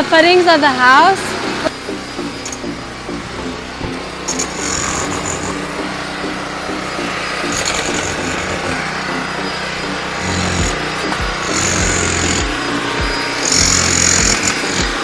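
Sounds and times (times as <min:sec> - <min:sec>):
small engine machinery running: 0:00.0 - 0:15.0.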